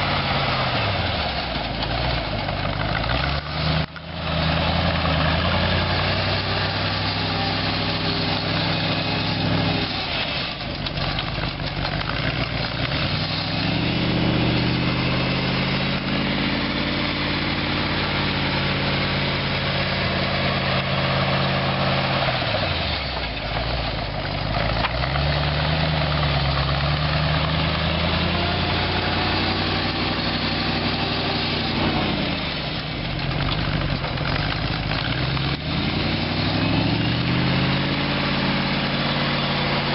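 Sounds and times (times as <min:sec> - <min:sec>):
tractor engine revving: 0:00.0 - 0:39.9.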